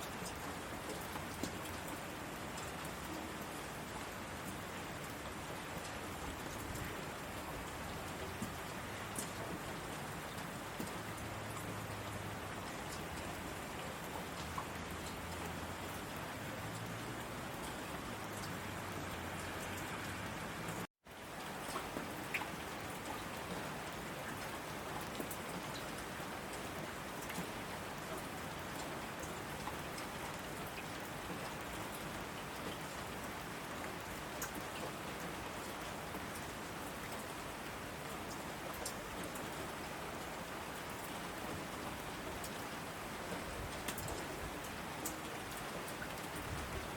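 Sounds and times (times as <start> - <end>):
heavy rain on asphalt: 0.0 - 46.9.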